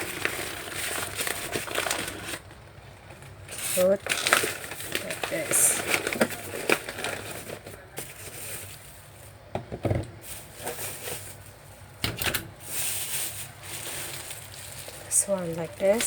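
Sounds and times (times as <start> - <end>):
paper towel and plastic rustling: 0.0 - 9.4, 10.2 - 16.0.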